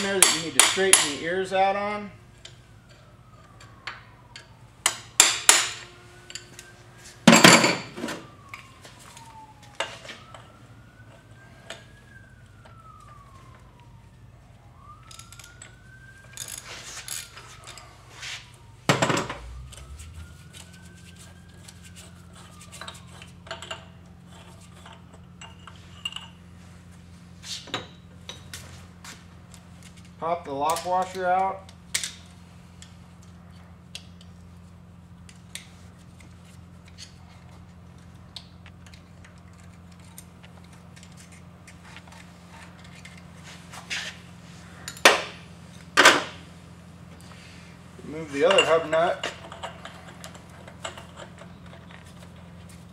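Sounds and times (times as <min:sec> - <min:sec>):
distant siren wail: 0:00.0 - 0:52.9.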